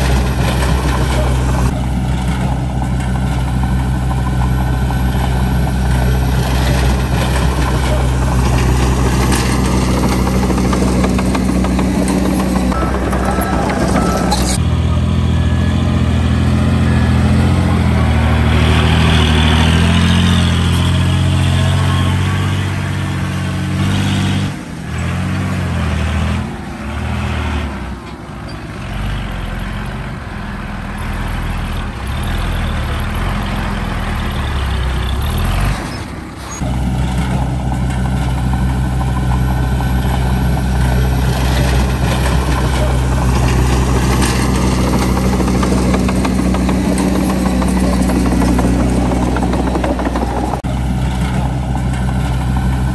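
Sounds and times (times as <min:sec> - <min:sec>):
heavy diesel engines running: 0:00.0 - 0:52.9.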